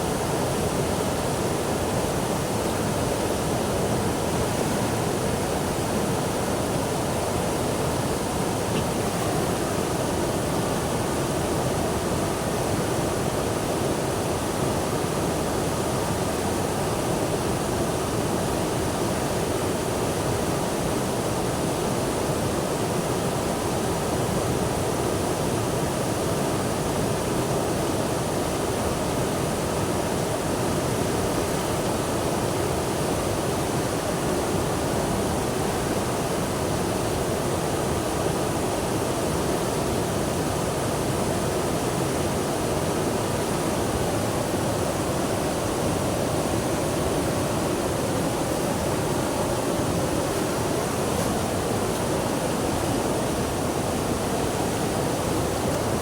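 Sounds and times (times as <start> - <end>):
water rushing: 0.0 - 27.5, 28.2 - 56.0.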